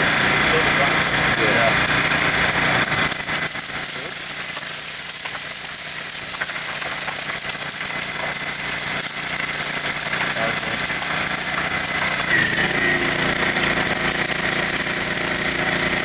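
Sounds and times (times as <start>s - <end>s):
fire crackling and popping: 0.0s - 16.0s
steady engine hum: 0.0s - 16.0s.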